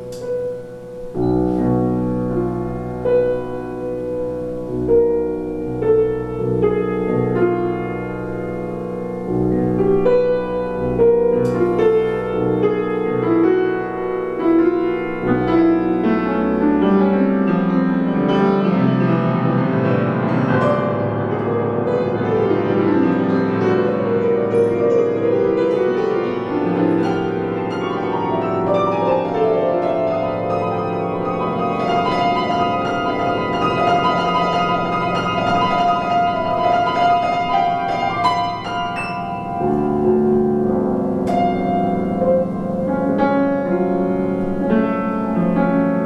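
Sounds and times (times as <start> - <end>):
piano improvisation: 0.0 - 46.0.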